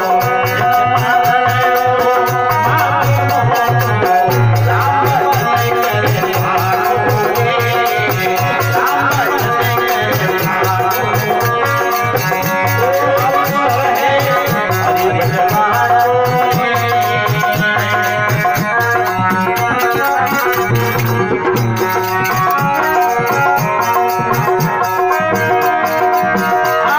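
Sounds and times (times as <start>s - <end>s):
fast hand drumming: 0.0s - 26.9s
harmonium melody: 0.0s - 26.9s.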